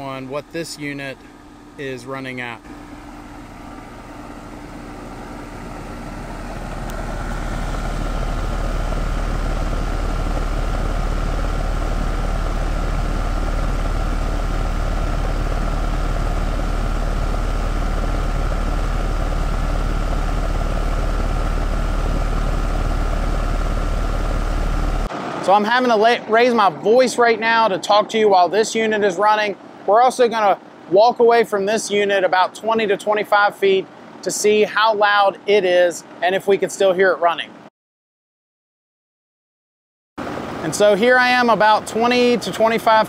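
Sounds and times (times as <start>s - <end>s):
heat pump fan and compressor hum: 0.0s - 37.7s, 40.2s - 43.0s.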